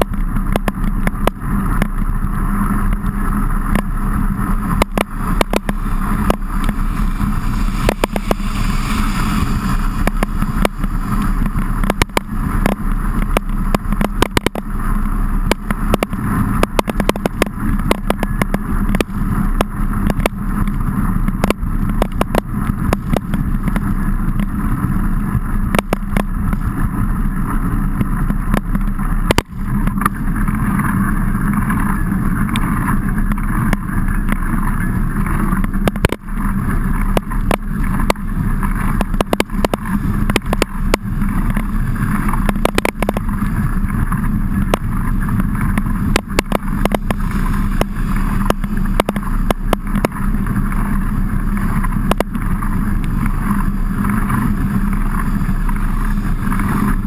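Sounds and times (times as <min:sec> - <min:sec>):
bike clicks and knocks: 0:00.0 - 0:02.2, 0:09.7 - 0:14.8, 0:15.5 - 0:24.6, 0:25.6 - 0:26.7, 0:27.9 - 0:57.0
bike tyre and wind noise: 0:00.0 - 0:57.0.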